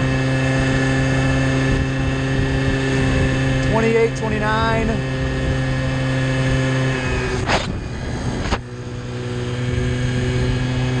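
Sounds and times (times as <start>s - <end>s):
scooter engine running flat out: 0.0s - 11.0s.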